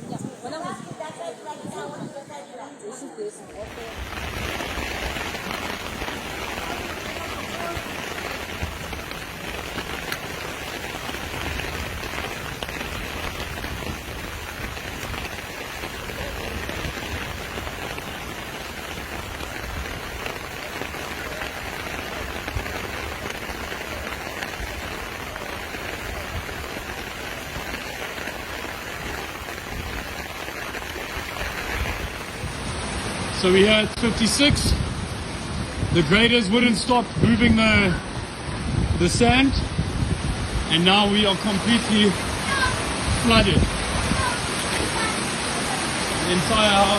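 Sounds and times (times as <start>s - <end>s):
heavy rain falling: 3.5s - 46.9s.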